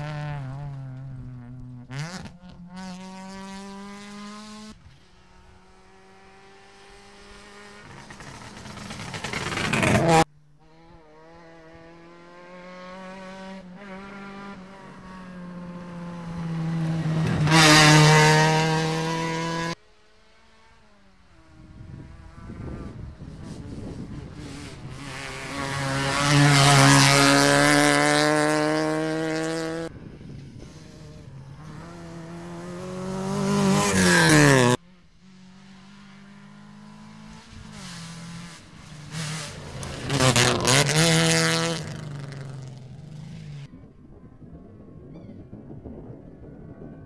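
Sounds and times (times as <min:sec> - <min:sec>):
rally cars passing at full speed: 0:00.0 - 0:44.9.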